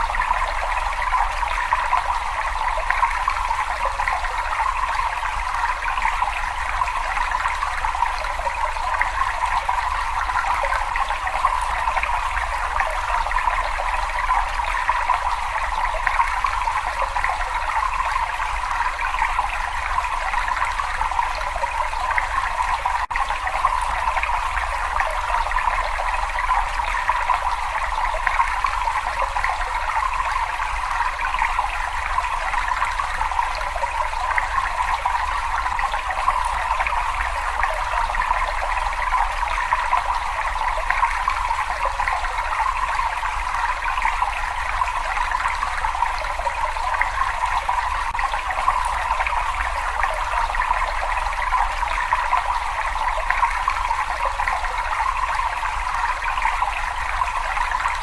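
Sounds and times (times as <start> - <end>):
water flowing in a cave: 0.0 - 58.0.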